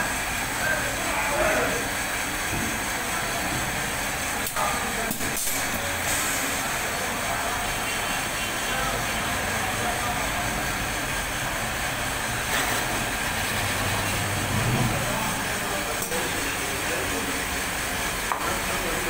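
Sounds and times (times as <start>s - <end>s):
valve seat cutting machine running: 0.0s - 19.0s.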